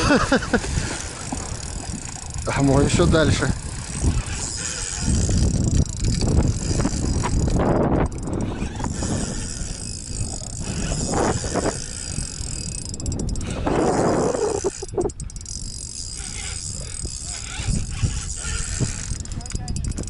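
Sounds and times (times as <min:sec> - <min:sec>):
fishing reel being cranked: 0:00.0 - 0:20.0.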